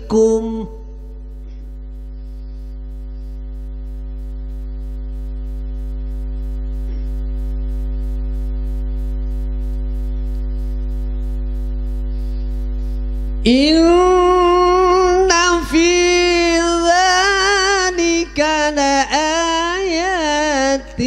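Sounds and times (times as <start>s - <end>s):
low electrical buzz: 0.0s - 21.0s.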